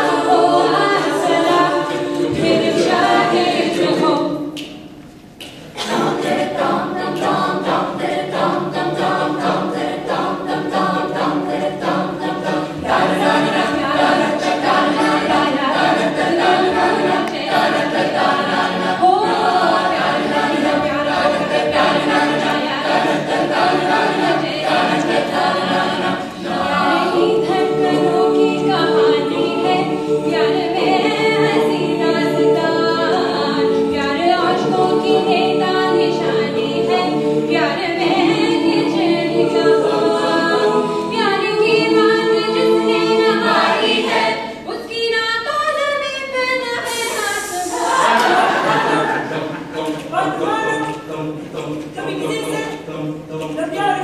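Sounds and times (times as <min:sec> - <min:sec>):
a cappella backing harmonies: 0:00.0 - 0:54.0.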